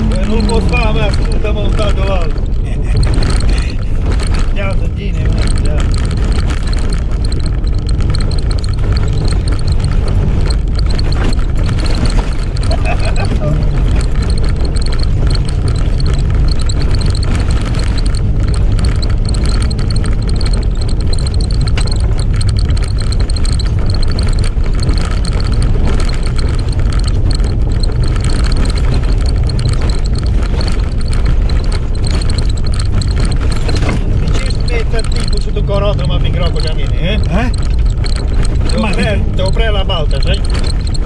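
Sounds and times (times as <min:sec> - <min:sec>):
vehicle engine and drivetrain noise: 0:00.0 - 0:41.0.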